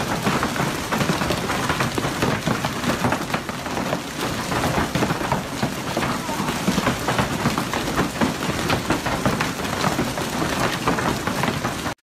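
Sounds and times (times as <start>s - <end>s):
hailstones pelting the ground: 0.0s - 12.0s.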